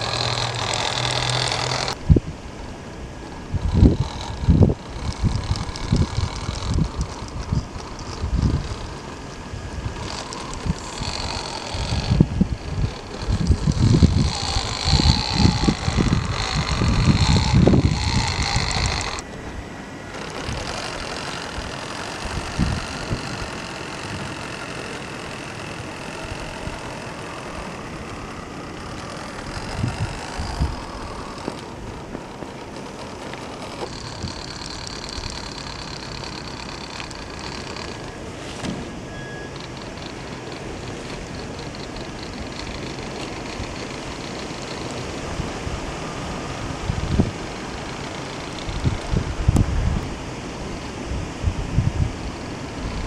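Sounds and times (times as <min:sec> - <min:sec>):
toy car electric motor whining: 0:00.0 - 0:50.1, 0:52.2 - 0:53.0
wind buffeting microphone: 0:00.0 - 0:53.0.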